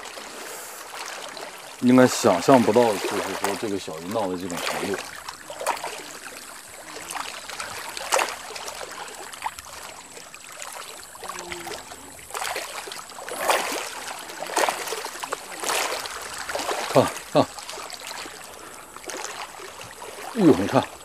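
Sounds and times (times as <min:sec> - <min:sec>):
fish splashing: 0:00.0 - 0:21.0
water lapping at shore: 0:00.0 - 0:21.0.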